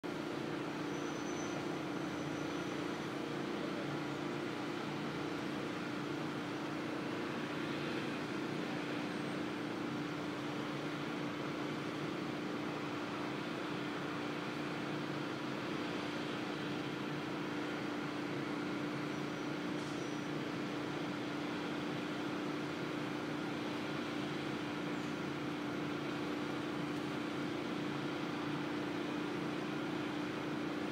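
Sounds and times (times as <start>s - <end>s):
power washer running: 1.6s - 30.9s.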